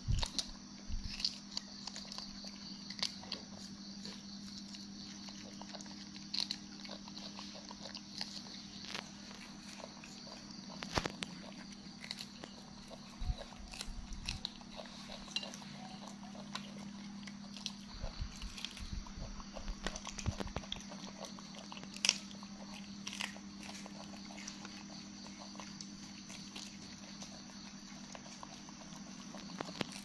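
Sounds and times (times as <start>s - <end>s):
monkeys chewing beans: 0.0s - 30.0s.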